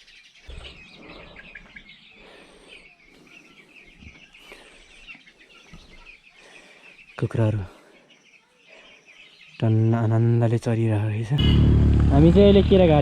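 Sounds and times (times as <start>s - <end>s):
many birds chirping: 0.0s - 13.0s.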